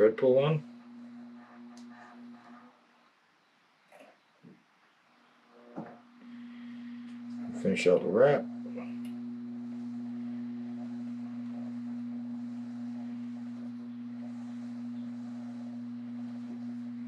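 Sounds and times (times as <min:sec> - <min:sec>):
low faint hum: 0:00.0 - 0:03.1, 0:05.2 - 0:17.0
steady electrical hum: 0:00.0 - 0:03.8, 0:05.2 - 0:17.0.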